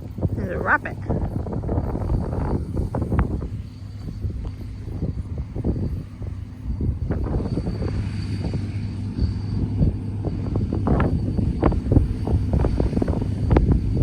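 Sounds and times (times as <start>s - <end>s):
low machinery engine hum: 0.0s - 14.0s.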